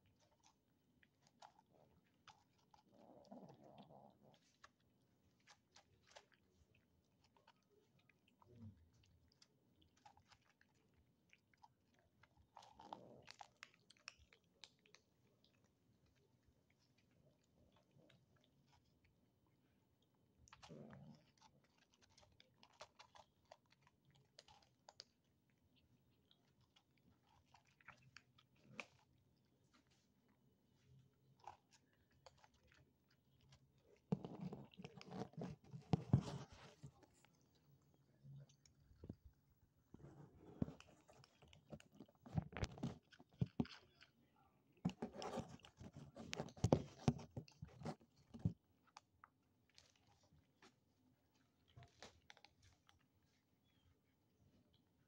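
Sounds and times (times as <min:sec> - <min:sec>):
kittens chewing food: 0:00.0 - 0:55.0.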